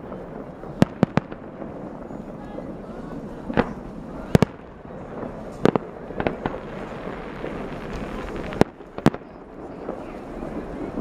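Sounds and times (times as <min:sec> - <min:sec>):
fireworks shells bursting: 0:00.0 - 0:11.0
steady din of fireworks display: 0:00.0 - 0:11.0.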